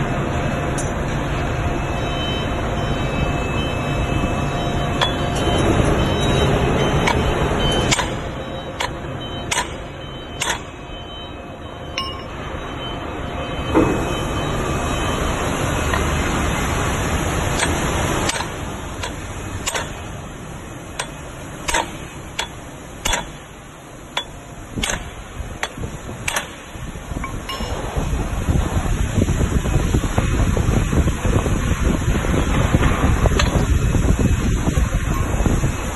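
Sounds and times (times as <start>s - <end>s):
workshop machinery rumble: 0.0s - 35.9s.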